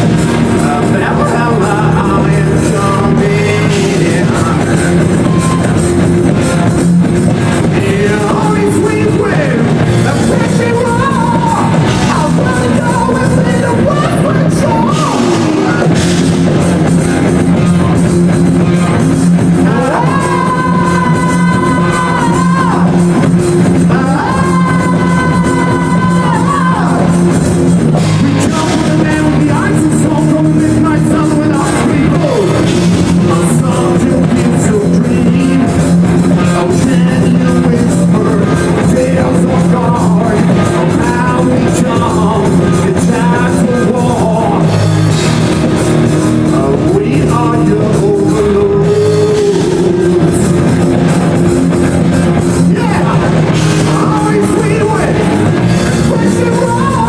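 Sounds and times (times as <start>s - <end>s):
rock music with singing: 0.0s - 57.0s.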